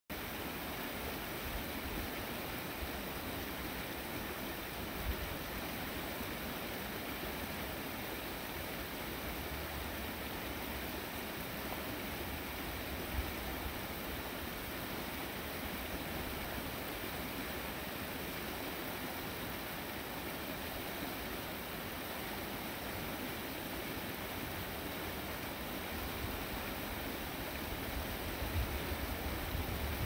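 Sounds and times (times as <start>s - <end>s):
creek flowing over rocks: 0.1s - 30.0s.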